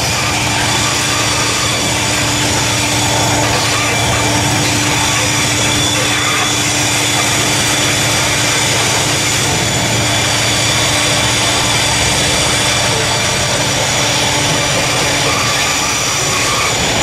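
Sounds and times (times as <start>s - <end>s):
diesel locomotive engine rumbling: 0.0s - 17.0s
high whine: 0.0s - 17.0s.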